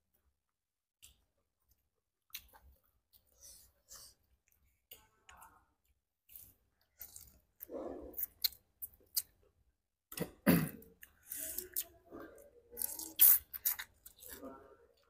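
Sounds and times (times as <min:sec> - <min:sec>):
chewing with mouth clicks: 0:01.0 - 0:09.4, 0:11.0 - 0:15.0.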